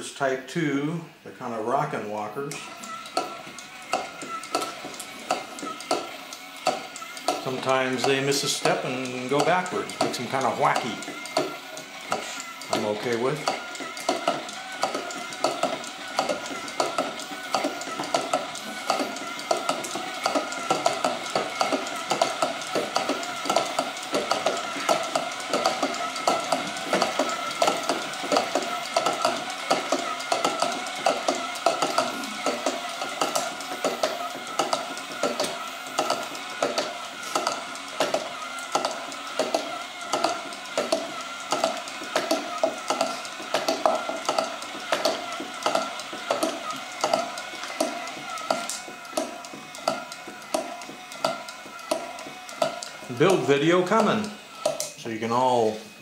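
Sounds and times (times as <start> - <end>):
small electric motors whirring: 1.5 - 56.0
plastic clicks and taps: 2.8 - 10.2, 10.8 - 53.4, 54.0 - 55.0.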